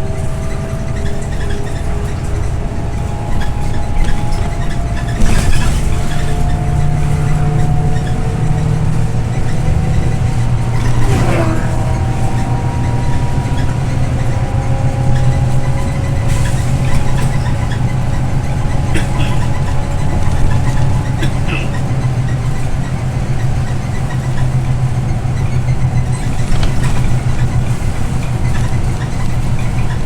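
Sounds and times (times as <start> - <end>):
bus diesel engine drone: 0.0 - 30.0
road noise: 0.0 - 30.0
whining drivetrain tones: 0.0 - 30.0.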